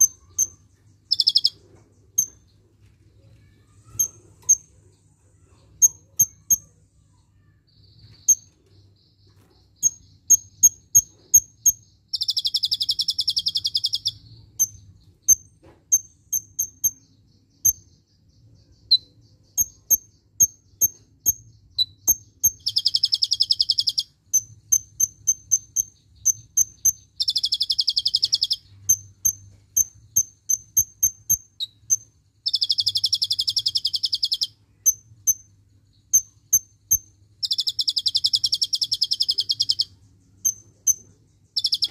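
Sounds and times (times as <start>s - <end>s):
bird singing high chips: 0.0s - 2.6s, 3.2s - 6.8s, 8.0s - 41.9s.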